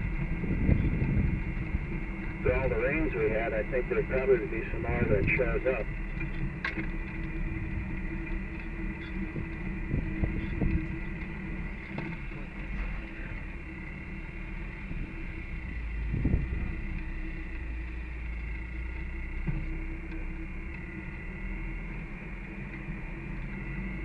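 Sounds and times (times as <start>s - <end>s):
vehicle engine and drivetrain hum: 0.0s - 24.0s.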